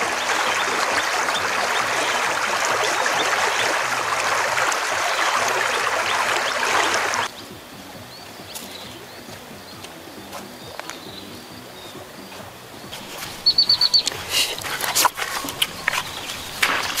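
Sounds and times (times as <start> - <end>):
river water babbling over stones: 0.0 - 17.0.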